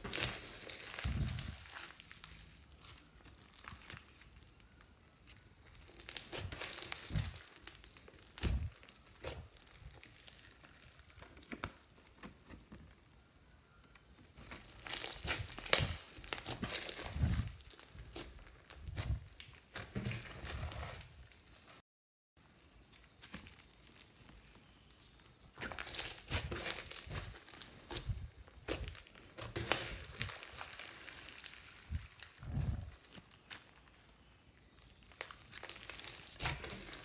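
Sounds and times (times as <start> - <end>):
slime crackling and crinkling: 0.0 - 21.8, 22.4 - 37.0.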